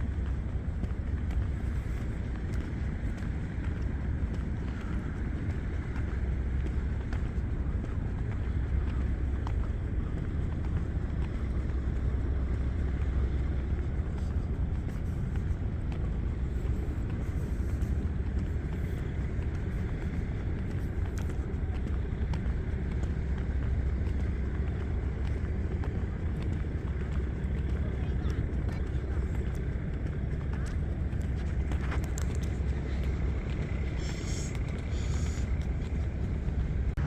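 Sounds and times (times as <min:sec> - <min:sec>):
low rumble of distant traffic: 0:00.0 - 0:37.0.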